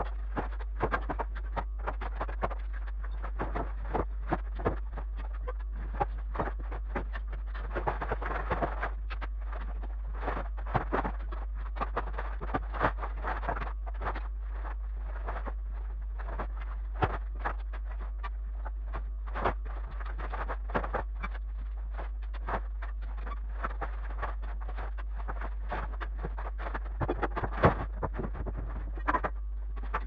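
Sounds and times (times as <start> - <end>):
rapid knocks and clatter: 0.0 - 30.0
steady low hum: 0.0 - 30.0.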